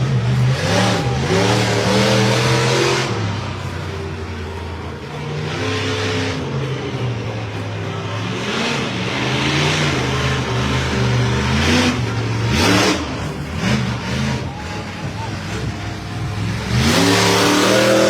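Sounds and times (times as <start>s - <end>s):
truck engine idling and revving: 0.0s - 18.0s.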